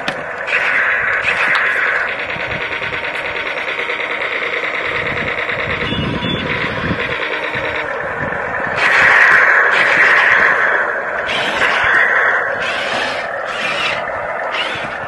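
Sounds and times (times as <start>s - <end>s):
toy tank motors whirring: 0.3s - 15.0s.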